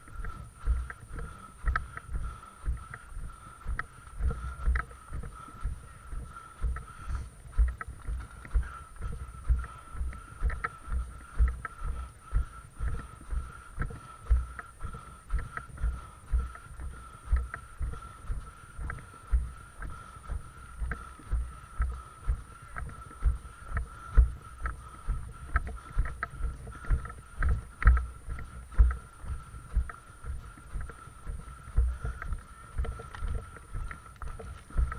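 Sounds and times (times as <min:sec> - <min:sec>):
footsteps walking: 0:00.0 - 0:34.9.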